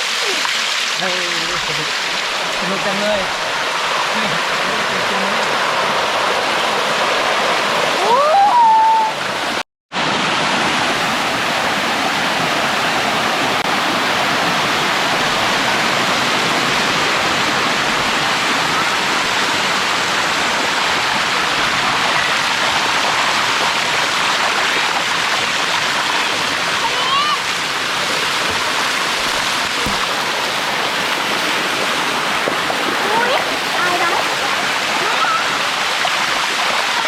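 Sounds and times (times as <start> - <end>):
waterfall rushing over rock: 0.0 - 37.0.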